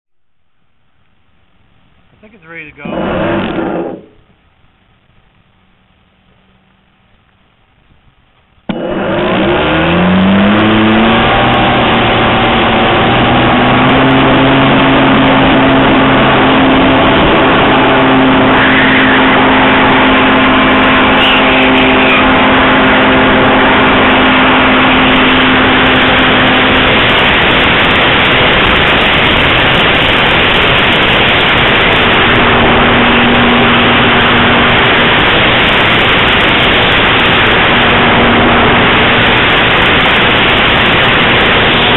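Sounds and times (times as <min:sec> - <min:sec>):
propeller wash rushing: 0:00.9 - 0:04.4, 0:08.7 - 0:41.9
electric motor whine: 0:02.6 - 0:04.3, 0:08.7 - 0:41.9.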